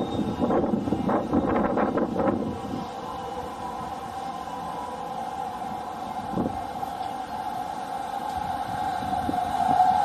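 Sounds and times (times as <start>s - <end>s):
train rumbling past: 0.0s - 10.0s.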